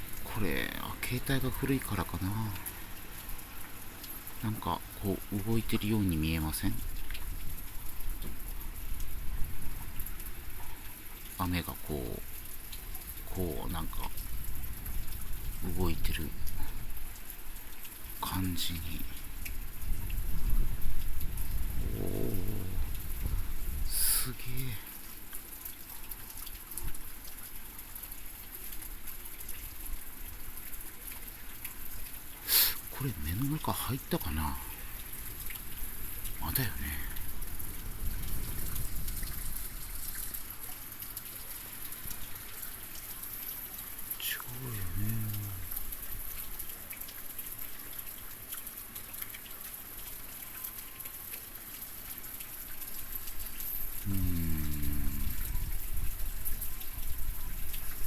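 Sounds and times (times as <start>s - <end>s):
heavy rain and rushing water: 0.0s - 58.0s.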